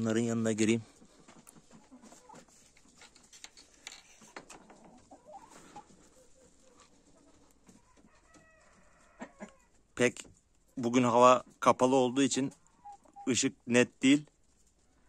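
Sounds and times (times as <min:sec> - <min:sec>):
hens clucking: 0:00.7 - 0:13.5.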